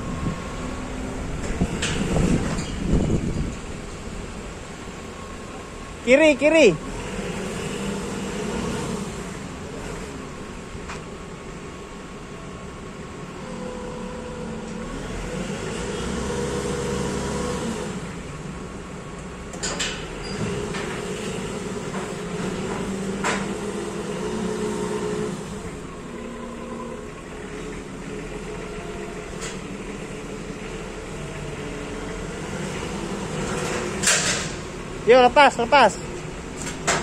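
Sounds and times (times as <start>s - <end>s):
forklift diesel engine running: 0.0s - 6.0s, 6.6s - 37.0s.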